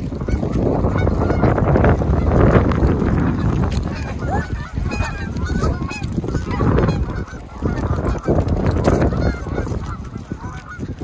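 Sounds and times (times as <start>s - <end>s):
heavy low rumble: 0.0s - 11.0s
geese honking: 0.1s - 11.0s.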